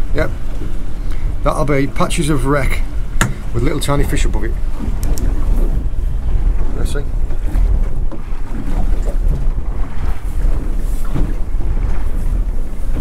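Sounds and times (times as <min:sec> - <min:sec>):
sea noise: 0:00.0 - 0:13.0
wind buffeting microphone: 0:00.0 - 0:13.0.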